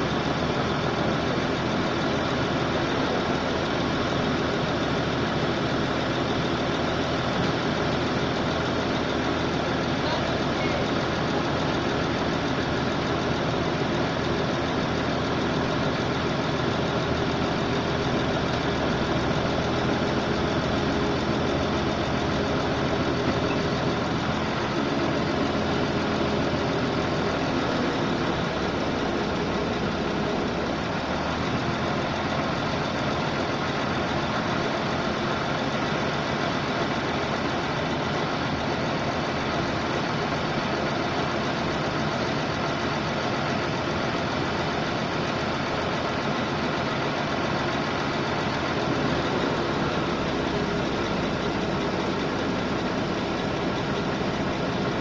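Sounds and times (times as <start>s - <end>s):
air compressor diesel engine: 0.0s - 55.0s.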